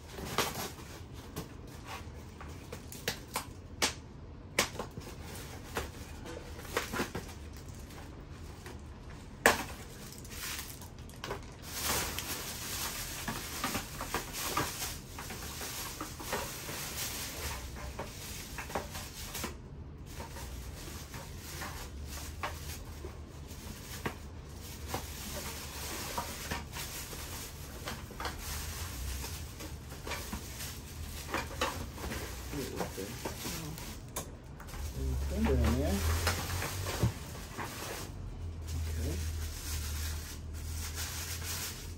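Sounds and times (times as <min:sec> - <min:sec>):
packaging rustling: 0:04.4 - 0:41.9.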